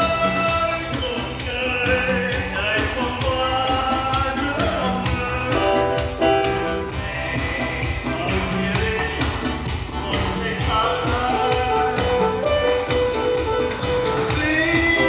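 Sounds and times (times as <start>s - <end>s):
amplified music with steady beat: 0.0s - 15.0s
man singing into microphone: 0.0s - 15.0s.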